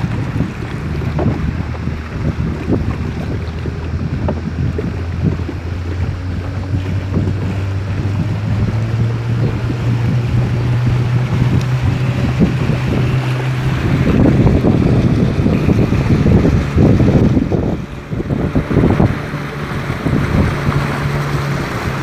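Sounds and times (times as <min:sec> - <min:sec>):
boat engine running: 0:00.0 - 0:22.0
wind buffeting microphone: 0:00.0 - 0:22.0.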